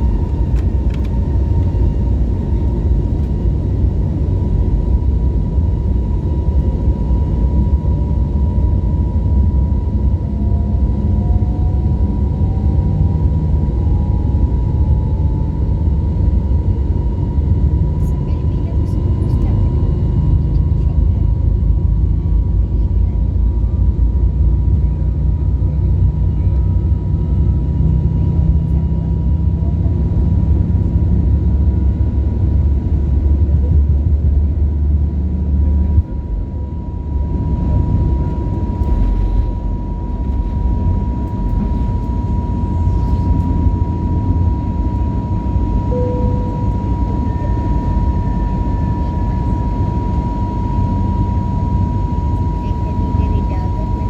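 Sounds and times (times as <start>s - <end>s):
aircraft cabin engine rumble: 0.0s - 54.0s
constant whining tone: 0.0s - 54.0s.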